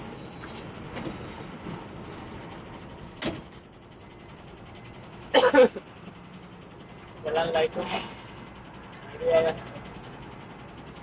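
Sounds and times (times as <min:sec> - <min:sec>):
bus humming: 0:00.0 - 0:11.0.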